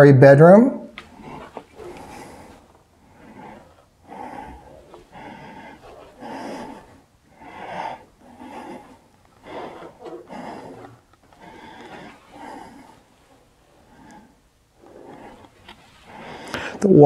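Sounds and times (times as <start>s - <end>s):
person breathing heavily: 0.9s - 17.0s.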